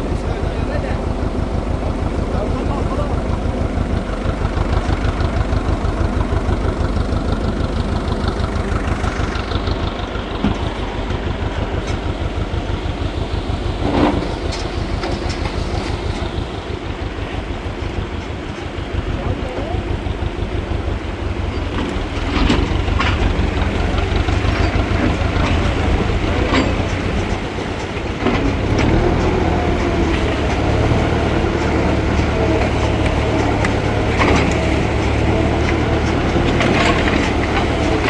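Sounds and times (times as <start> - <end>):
engine rumbling: 0.0 - 38.0
scattered knocks: 0.0 - 38.0.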